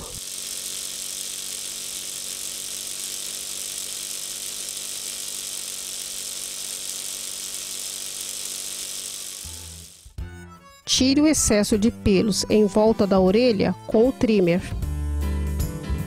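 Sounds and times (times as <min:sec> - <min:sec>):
pet trimmer buzzing: 0:00.0 - 0:13.0.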